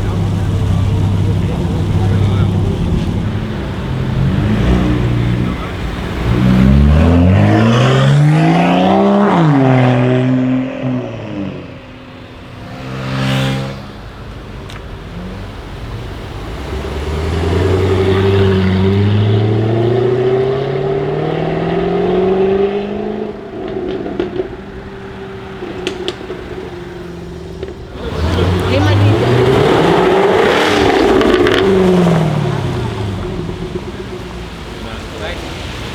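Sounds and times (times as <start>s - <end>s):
car engine accelerating: 0.0s - 35.9s
car whooshing past: 0.0s - 35.9s.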